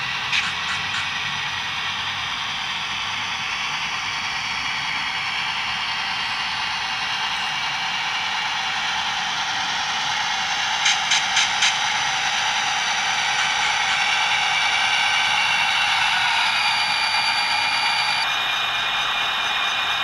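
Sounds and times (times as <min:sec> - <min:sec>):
model locomotive diesel engine sound: 0:00.0 - 0:20.0.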